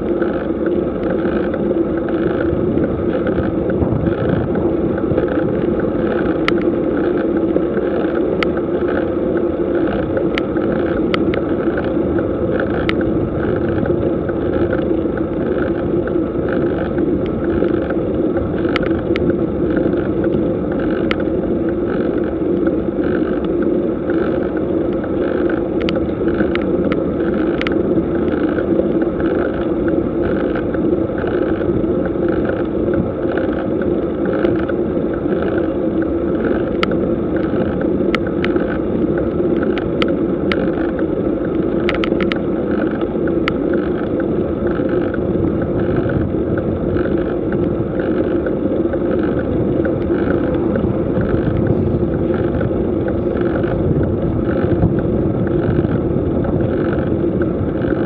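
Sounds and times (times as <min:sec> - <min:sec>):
muffled road and wind noise: 0:00.0 - 0:58.0
sharp ticks: 0:00.1 - 0:58.0.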